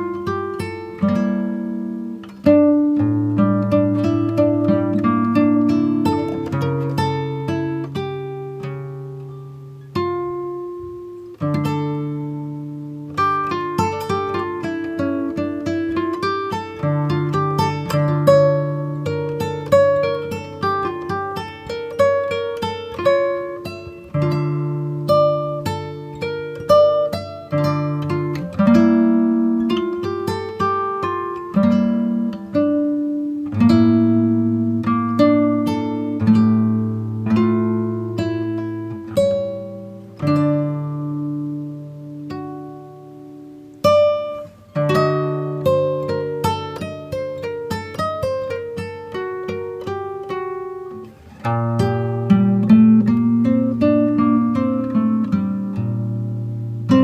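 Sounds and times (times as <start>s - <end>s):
plucked guitar-like music: 0.0s - 57.0s.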